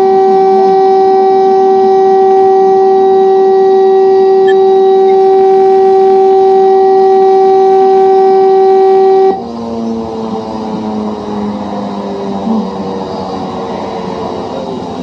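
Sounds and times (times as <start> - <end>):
faint low wavering tones: 0.0 - 14.7
helicopter warning horn tone: 0.0 - 15.0.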